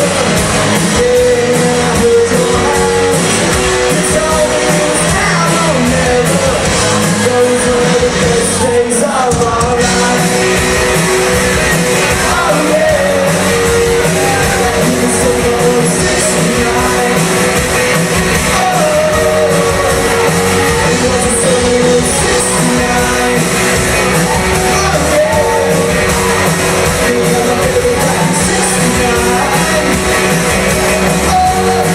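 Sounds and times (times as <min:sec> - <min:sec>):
live rock band with singer: 0:00.0 - 0:31.9.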